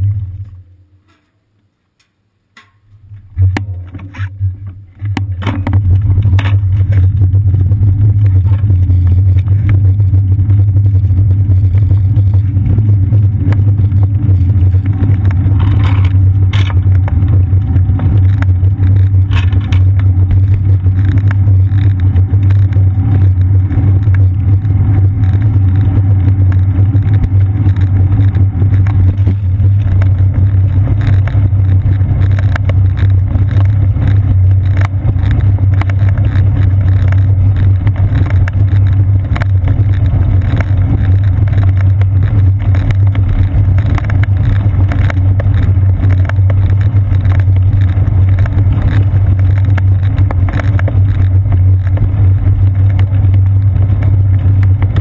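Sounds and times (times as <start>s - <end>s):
bicycle road vibration: 0.0s - 1.3s, 2.6s - 55.0s
wind rumble: 2.9s - 55.0s.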